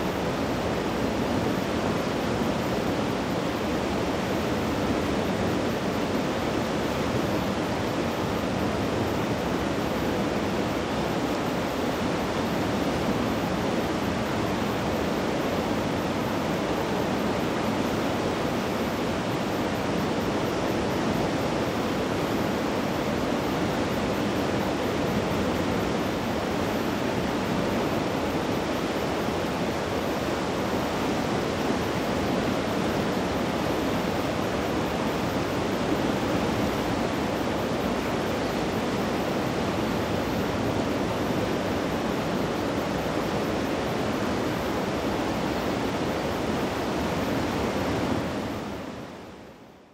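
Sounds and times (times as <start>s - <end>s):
river in flood rushing: 0.0s - 49.9s.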